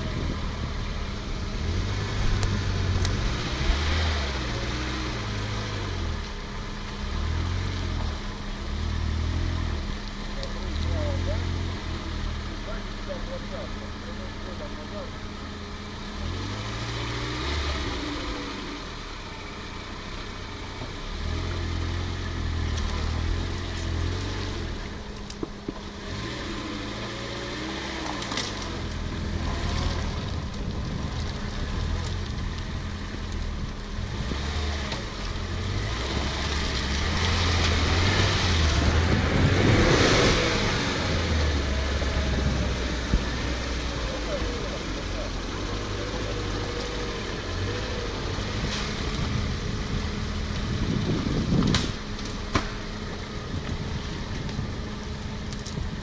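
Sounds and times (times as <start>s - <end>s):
off-road engine revving: 0.0s - 56.0s.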